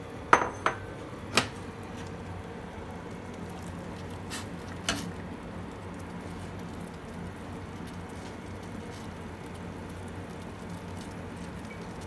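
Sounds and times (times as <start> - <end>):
soup simmering in pot: 0.1 - 12.0.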